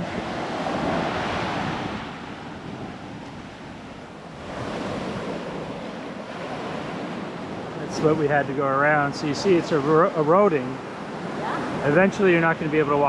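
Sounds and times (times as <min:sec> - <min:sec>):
waves breaking on a beach: 0:00.0 - 0:13.0.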